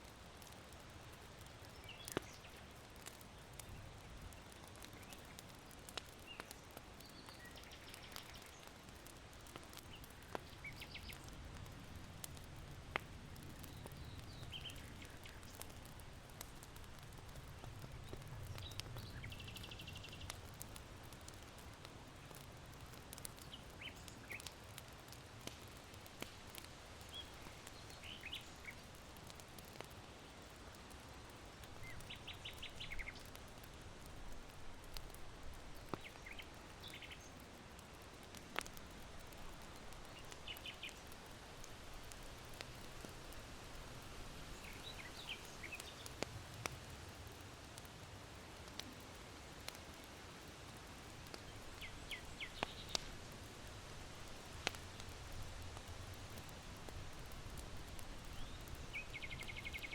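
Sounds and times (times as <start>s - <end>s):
charcoal crackling and popping: 0.0s - 59.9s
small birds chirping: 0.4s - 43.8s, 44.4s - 47.0s, 51.3s - 53.2s, 57.5s - 59.9s.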